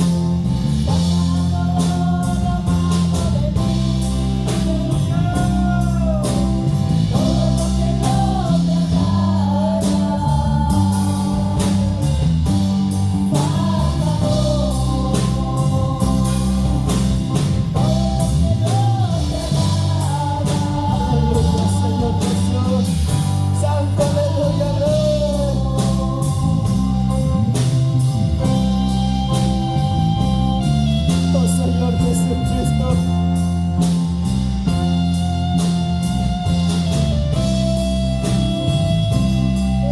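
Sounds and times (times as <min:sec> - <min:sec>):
worship band playing slow song: 0:00.0 - 0:39.9.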